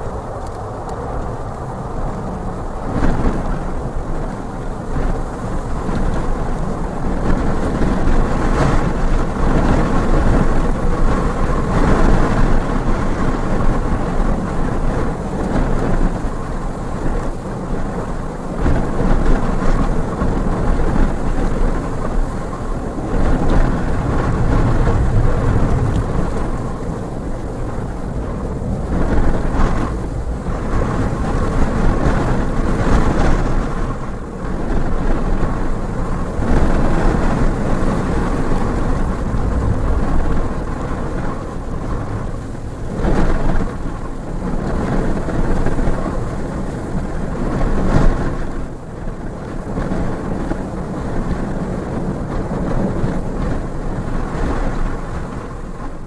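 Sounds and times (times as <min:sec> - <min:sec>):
jet engines roaring: 0:00.0 - 0:56.0
wind gusting over microphone: 0:00.0 - 0:56.0.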